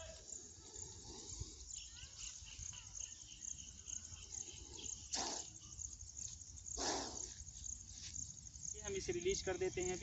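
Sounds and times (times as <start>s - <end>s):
crickets chirping: 0.0s - 10.0s
lower pulsing insect chirp: 0.0s - 10.0s.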